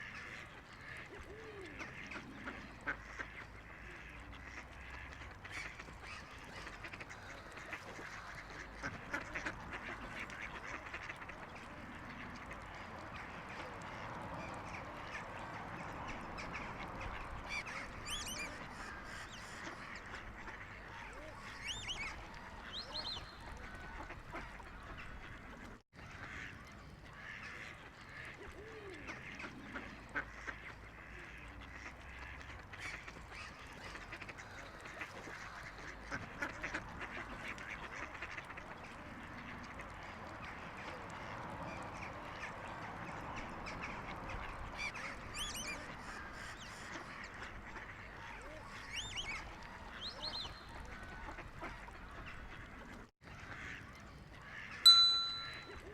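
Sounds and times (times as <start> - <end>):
waterbird calls and chatter: 0.0 - 55.9.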